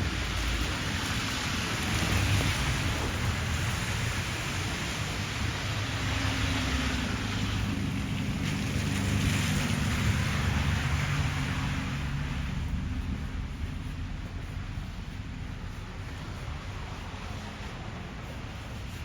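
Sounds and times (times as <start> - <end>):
tyres hissing through slush: 0.0 - 19.0
vehicle engine humming: 0.0 - 19.0.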